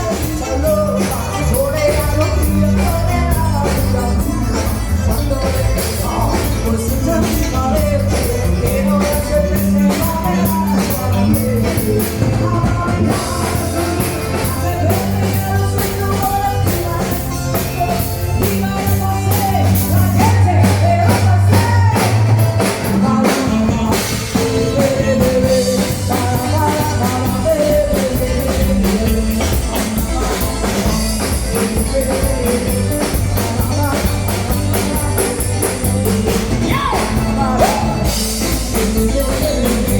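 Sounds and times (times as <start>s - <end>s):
heavy bass: 0.0s - 39.9s
person singing: 0.0s - 39.9s
rock band music: 0.0s - 39.9s.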